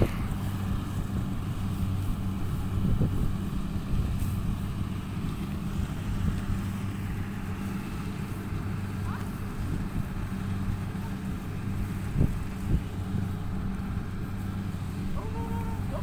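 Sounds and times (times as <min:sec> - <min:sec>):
low engine drone: 0:00.0 - 0:16.0
wind rumbling on microphone: 0:00.0 - 0:16.0.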